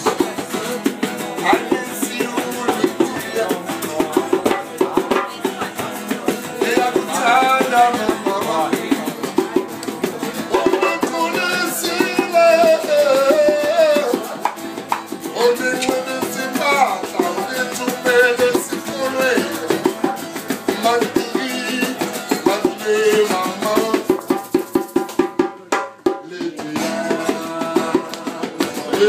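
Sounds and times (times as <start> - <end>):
person singing: 0.0 - 9.6, 10.4 - 24.6, 25.6 - 29.0
accompanying instruments: 0.0 - 29.0
percussion rhythm: 0.0 - 29.0.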